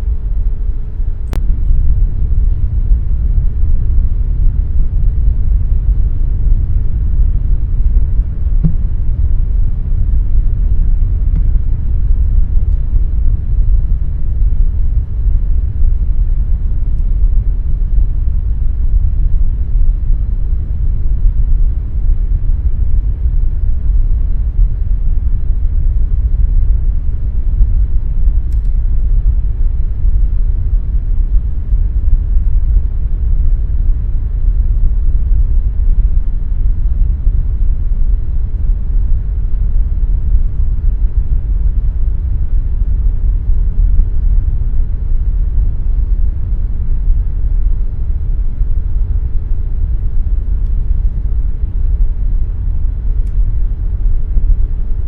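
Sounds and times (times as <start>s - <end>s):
air conditioner humming: 0.0s - 55.0s.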